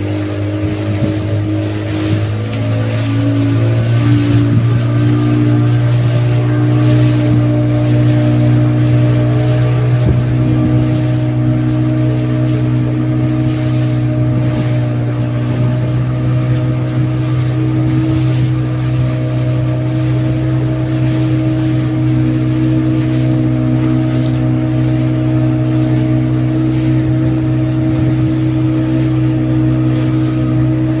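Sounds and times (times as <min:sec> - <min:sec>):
ship engine low drone: 0:00.0 - 0:31.0.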